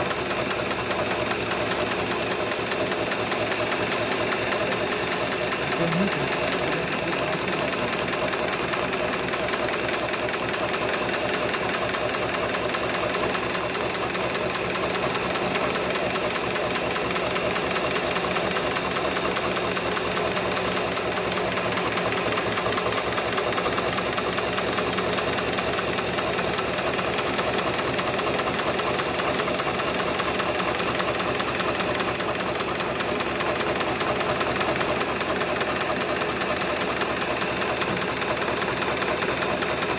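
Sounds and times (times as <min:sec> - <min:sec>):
sewing machine stitching clatter: 0:00.0 - 0:39.9.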